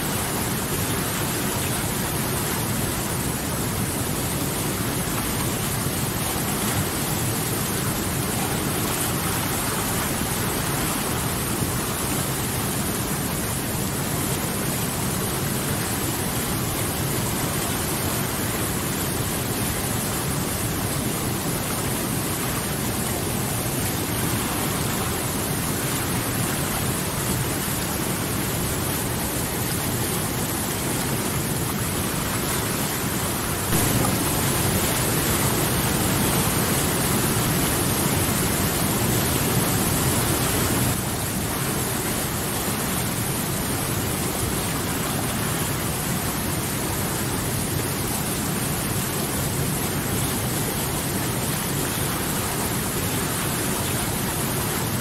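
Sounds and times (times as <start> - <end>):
water rushing over boulders: 0.0 - 55.0.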